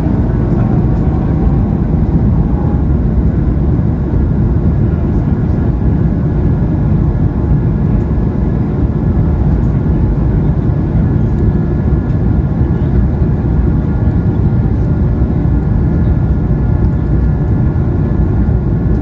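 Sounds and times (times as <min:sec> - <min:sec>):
faint high engine whine: 0:00.0 - 0:19.0
jet engine rumble: 0:00.0 - 0:19.0.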